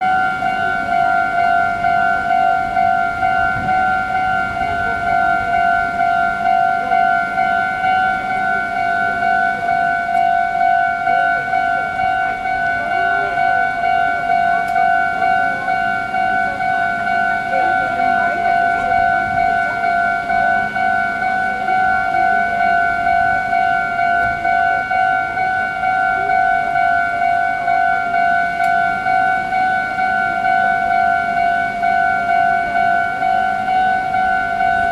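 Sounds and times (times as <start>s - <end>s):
level-crossing alarm bell ringing: 0.0s - 34.9s.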